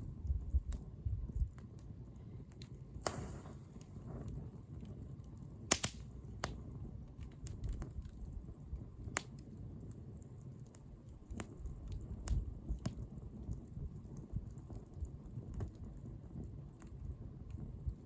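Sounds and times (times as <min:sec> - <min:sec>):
bonfire crackling and popping: 0:00.0 - 0:18.0
low rumble of flames: 0:00.0 - 0:18.0.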